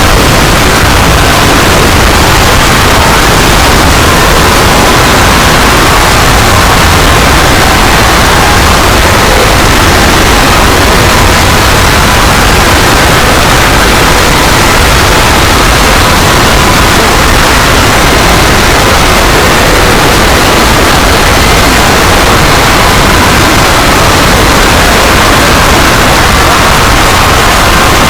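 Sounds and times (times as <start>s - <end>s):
loud static hiss: 0.0s - 28.0s.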